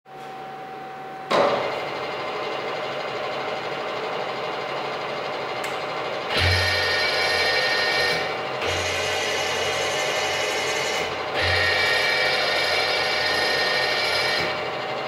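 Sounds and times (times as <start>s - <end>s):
machine low hum: 0.1s - 15.0s
milling machine spindle whirring: 1.6s - 15.0s.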